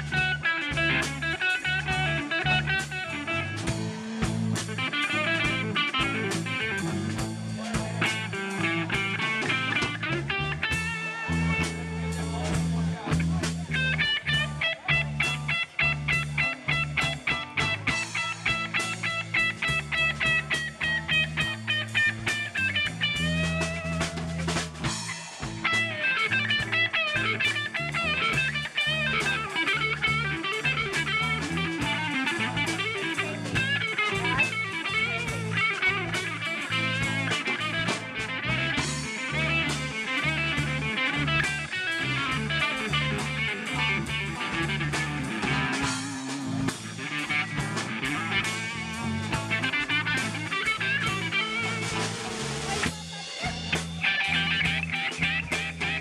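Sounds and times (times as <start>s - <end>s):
drum kit: 0.0s - 56.0s
electric guitar lead lines: 0.0s - 56.0s
low bass line: 0.0s - 56.0s
second guitar: 0.0s - 56.0s.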